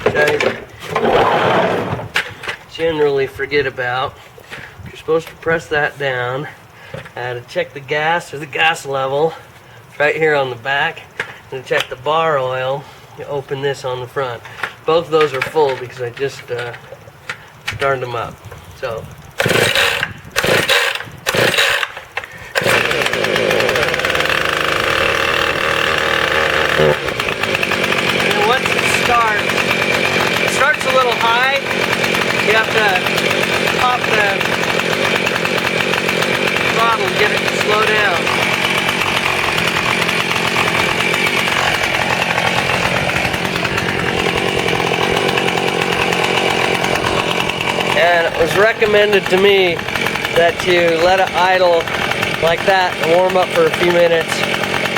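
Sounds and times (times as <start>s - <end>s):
chainsaw starter pulls: 0.0s - 7.3s, 8.3s - 54.9s
chainsaw engine running: 0.0s - 7.4s, 8.3s - 54.9s.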